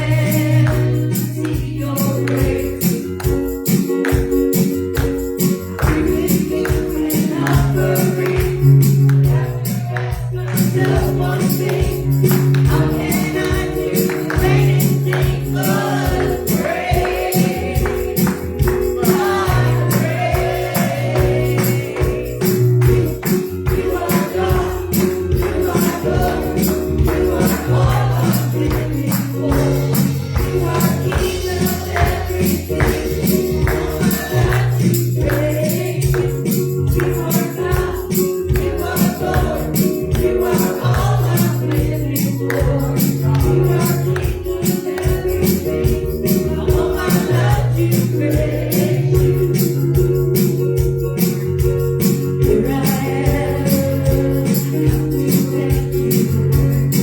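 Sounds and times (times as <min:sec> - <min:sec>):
voices singing: 0:00.0 - 0:03.4, 0:05.8 - 0:50.0, 0:52.3 - 0:57.0
gospel band playing: 0:00.0 - 0:57.0
tambourine: 0:00.0 - 0:57.0.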